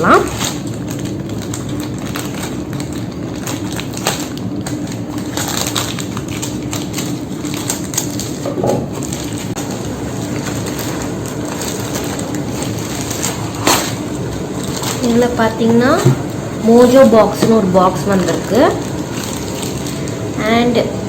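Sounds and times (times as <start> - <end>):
background hum: 0.0 - 21.0
packaging crackling: 0.0 - 21.0.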